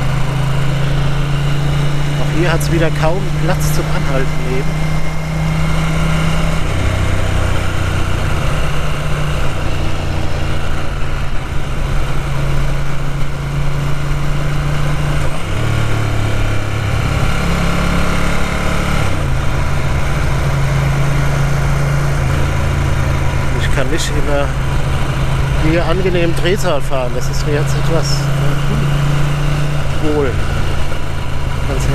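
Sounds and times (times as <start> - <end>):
motorcycle engine running rough: 0.0 - 31.9.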